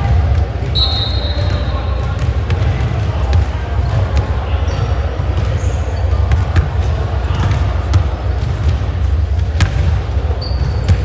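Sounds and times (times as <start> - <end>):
basketball bouncing on court: 0.0 - 11.0
low hall noise rumble: 0.0 - 11.0
sneaker squeak: 0.6 - 2.6, 3.2 - 11.0.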